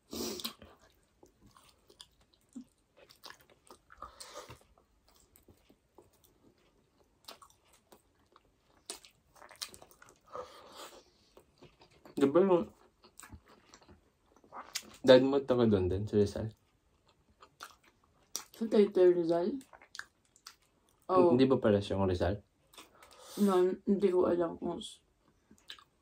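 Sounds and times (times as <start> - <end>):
people chewing with wet clicks: 0.3 - 21.2, 22.4 - 23.3, 25.2 - 26.0.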